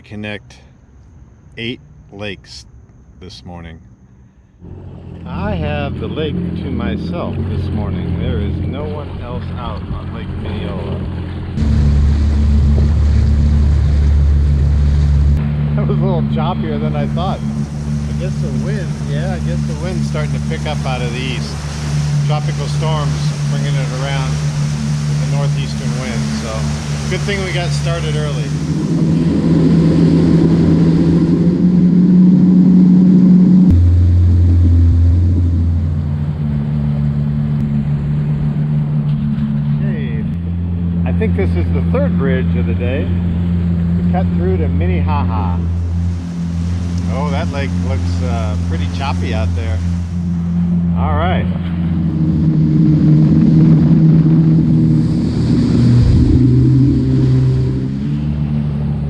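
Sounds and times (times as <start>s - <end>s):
water noise: 1.6s - 2.6s, 4.6s - 59.0s
personal watercraft engine running: 3.5s - 59.0s
wind noise: 4.6s - 59.0s.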